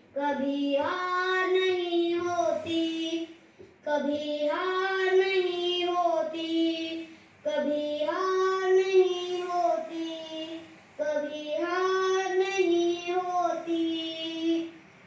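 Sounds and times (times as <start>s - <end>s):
boy singing: 0.0s - 14.8s.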